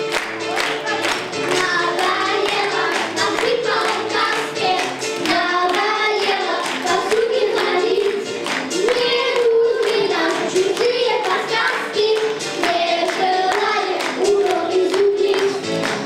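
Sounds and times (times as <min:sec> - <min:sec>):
hands clapping in time: 0:00.0 - 0:16.0
music: 0:00.0 - 0:16.0
children singing: 0:00.9 - 0:15.9.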